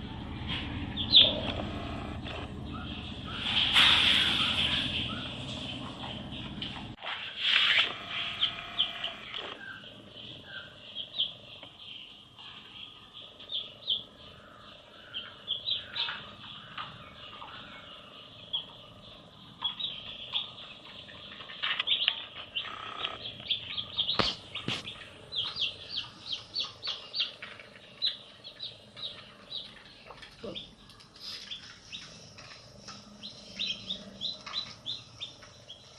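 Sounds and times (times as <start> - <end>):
baby chicks peeping: 0.0 - 35.9.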